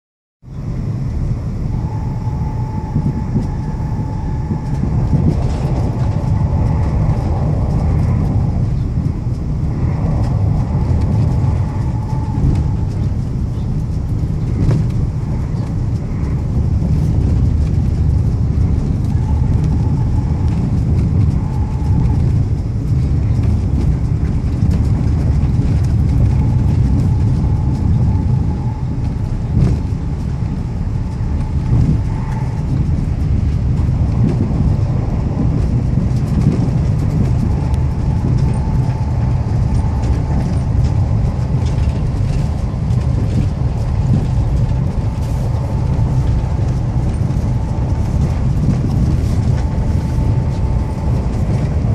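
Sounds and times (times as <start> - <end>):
train rumbling: 0.4 - 51.9.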